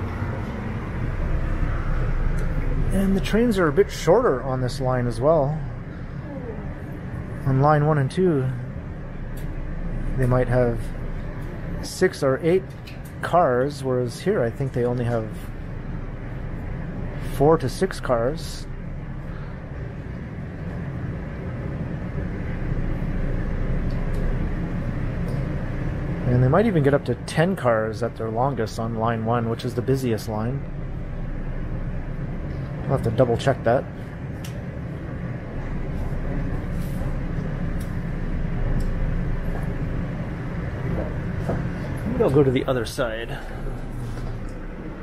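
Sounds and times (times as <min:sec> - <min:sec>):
subway train ventilation hum: 0:00.0 - 0:45.0.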